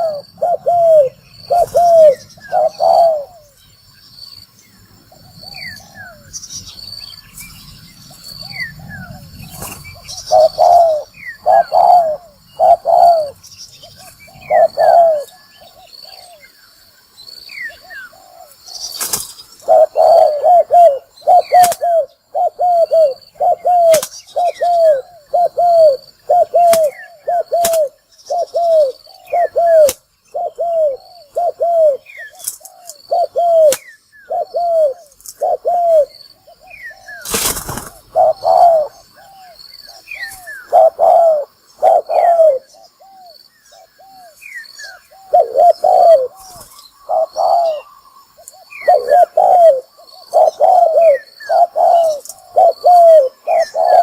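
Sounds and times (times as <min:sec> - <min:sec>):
dove cooing: 0:00.0 - 0:03.6, 0:08.3 - 0:16.5, 0:17.8 - 0:54.0
small birds chirping: 0:00.0 - 0:54.0.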